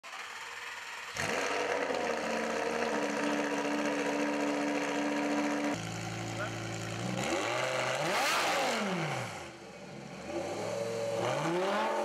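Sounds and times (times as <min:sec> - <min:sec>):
car engine starting and idling: 0:00.1 - 0:12.0.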